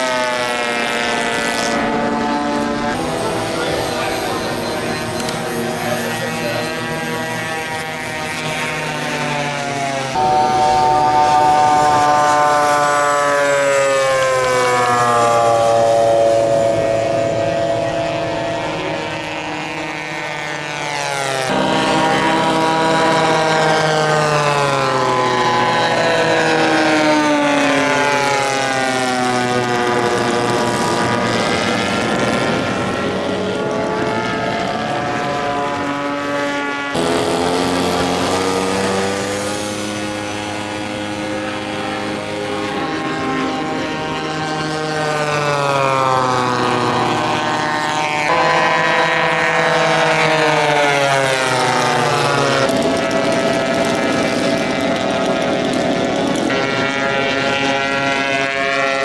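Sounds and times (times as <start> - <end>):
model aircraft propeller engines: 0.0 - 59.0.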